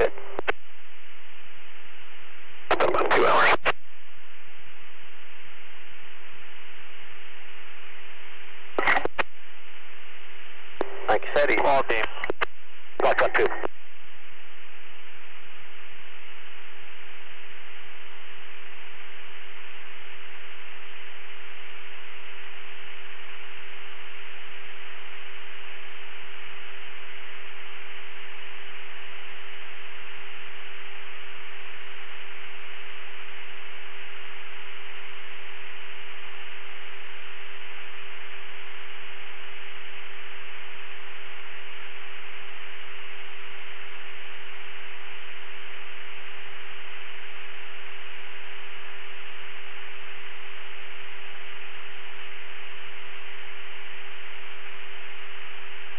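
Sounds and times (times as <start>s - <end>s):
constant hum tone: 0.0s - 55.9s
radio static hiss: 0.0s - 55.9s.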